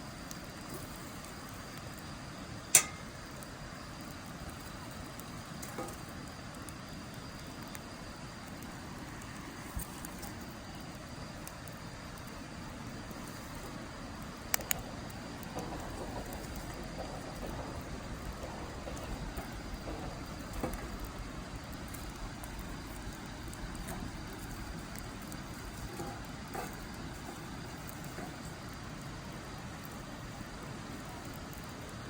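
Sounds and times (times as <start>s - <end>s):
fire pops: 0.0s - 32.0s
wood fire hissing and crackling: 0.0s - 32.0s.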